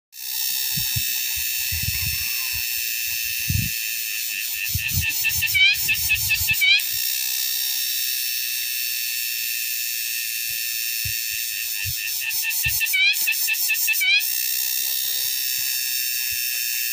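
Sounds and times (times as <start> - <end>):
cicada pulsing rising sweeps: 0.2 - 16.9
cicadas buzzing: 0.2 - 16.9.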